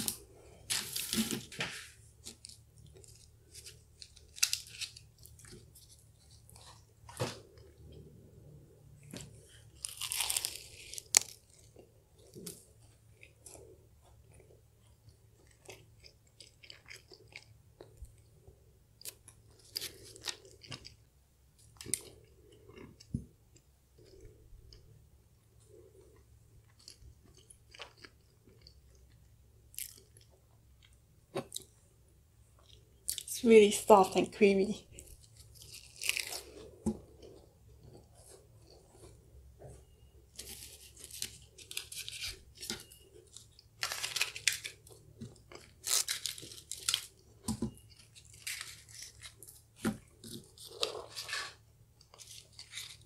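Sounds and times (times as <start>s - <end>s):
crisp pastry crunches: 0.0s - 7.8s, 9.0s - 18.3s, 18.9s - 23.1s, 25.8s - 31.7s, 34.9s - 38.8s, 40.3s - 53.0s
soft chewing: 0.0s - 33.3s, 34.8s - 53.0s.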